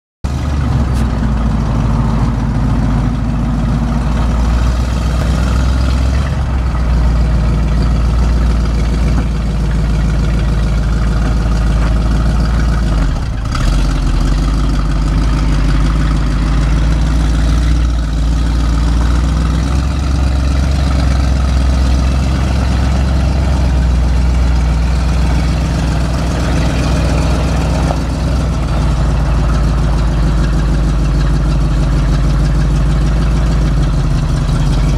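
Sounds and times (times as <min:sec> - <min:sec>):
truck engine running: 0:00.2 - 0:34.9.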